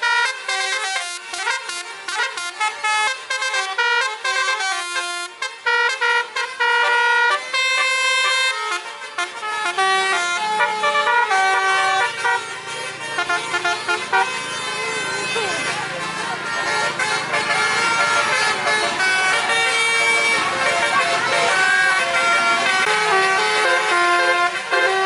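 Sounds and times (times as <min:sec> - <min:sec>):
musical air horn melody: 0:00.0 - 0:25.0.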